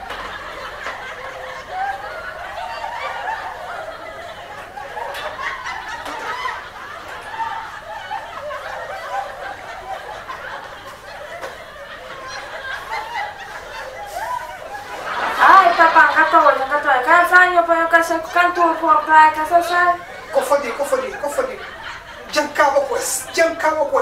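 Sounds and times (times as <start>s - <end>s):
many people laughing: 0.0s - 24.0s.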